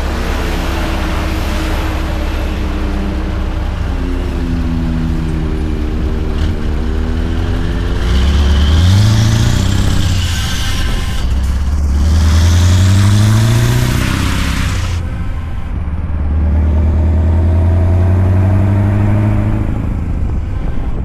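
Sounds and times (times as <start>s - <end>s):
truck engine under load: 0.0s - 21.0s.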